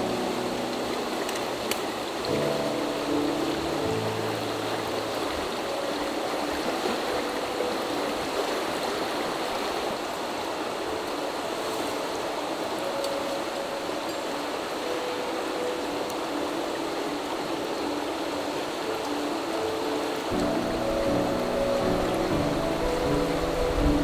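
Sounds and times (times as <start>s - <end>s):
stream rushing over stones: 0.0s - 24.0s.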